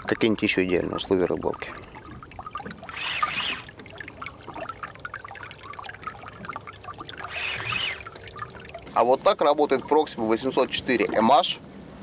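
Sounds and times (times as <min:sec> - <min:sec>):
water splashing against boat hull: 0:00.0 - 0:11.6.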